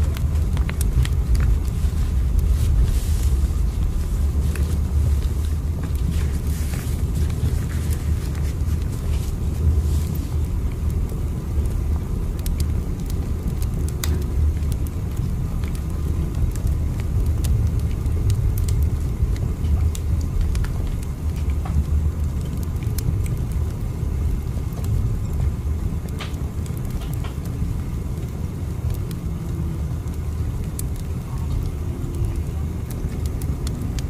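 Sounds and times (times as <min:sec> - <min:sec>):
moving train rumble: 0:00.0 - 0:27.8.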